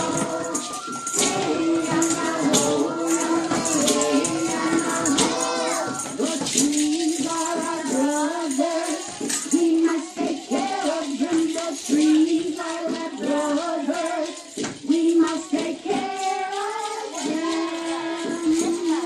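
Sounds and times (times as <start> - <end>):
children singing: 0.0 - 19.0
jingle bells shaking: 0.0 - 19.0.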